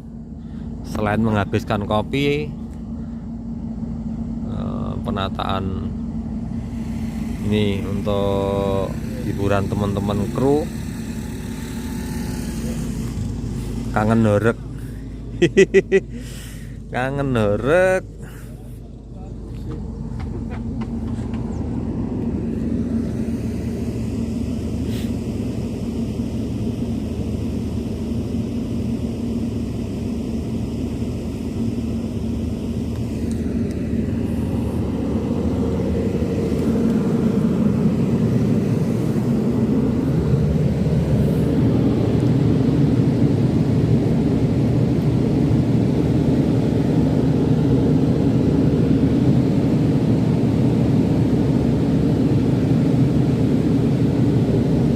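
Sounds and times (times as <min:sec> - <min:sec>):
low engine rumble: 0:00.0 - 0:54.9.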